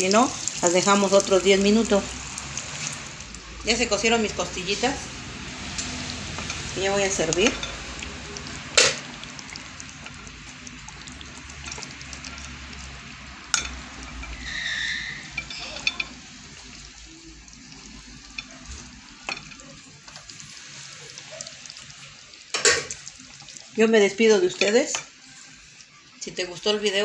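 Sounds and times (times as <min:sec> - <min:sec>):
sauce sizzling in a frying pan: 0:00.0 - 0:27.0.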